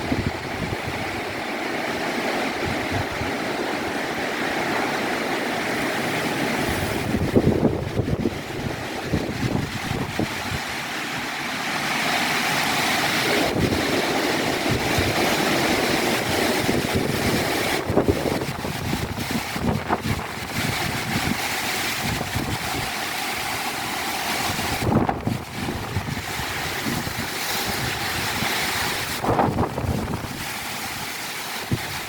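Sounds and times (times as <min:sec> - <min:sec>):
gusty wind through plants: 0:00.0 - 0:32.0
wind buffeting microphone: 0:00.0 - 0:32.0.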